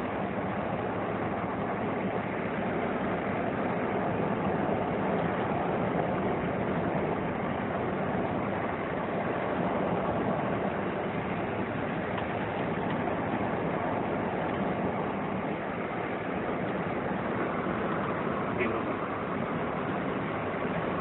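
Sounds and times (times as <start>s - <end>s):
vehicle road and engine noise: 0.0s - 21.0s.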